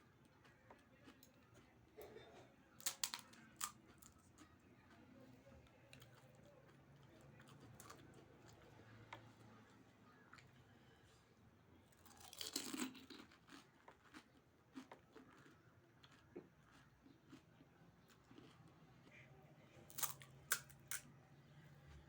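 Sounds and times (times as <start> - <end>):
crunching and chewing food: 0.0 - 22.0.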